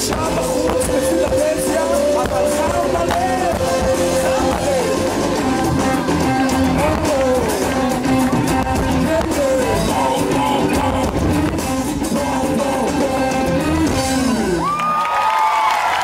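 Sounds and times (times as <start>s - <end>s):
live rock band playing: 0.0s - 15.1s
drums: 0.0s - 16.0s.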